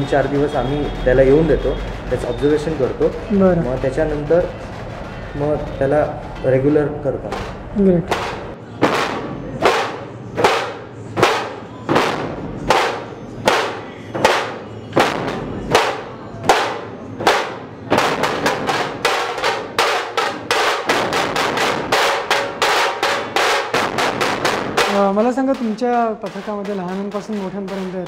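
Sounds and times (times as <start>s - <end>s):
barrel drums beaten with sticks: 0.0s - 5.9s, 7.3s - 28.0s.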